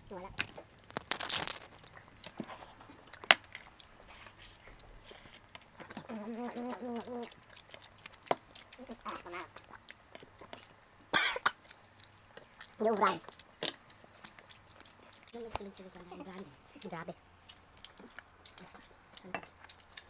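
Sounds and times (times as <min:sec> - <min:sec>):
man chewing with wet mouth clicks: 0:00.0 - 0:20.0.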